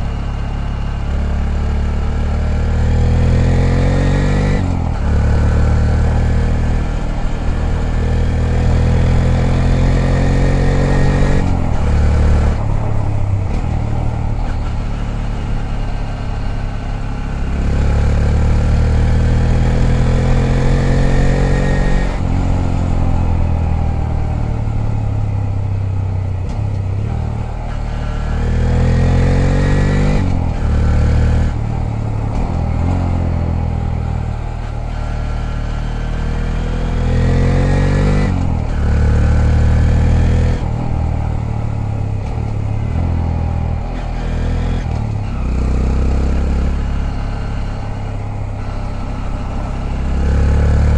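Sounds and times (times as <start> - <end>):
motorcycle engine revving through gears: 0.0 - 50.9.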